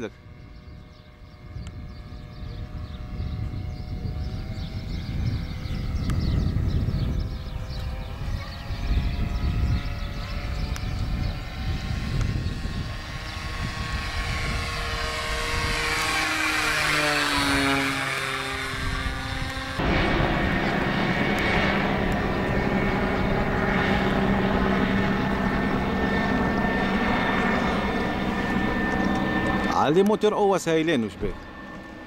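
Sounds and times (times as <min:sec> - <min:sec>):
model plane engine passing by: 0:00.0 - 0:32.0.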